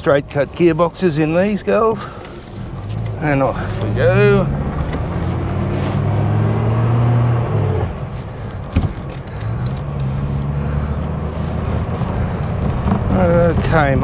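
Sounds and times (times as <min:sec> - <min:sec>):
car engine pulling away: 0:01.9 - 0:14.0
gear change clunk: 0:02.0 - 0:14.0
gear whining: 0:02.0 - 0:14.0.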